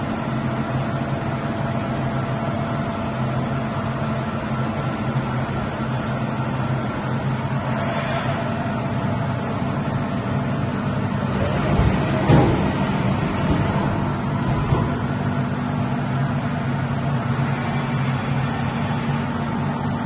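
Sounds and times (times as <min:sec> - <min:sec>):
machining centre humming: 0:00.0 - 0:20.0.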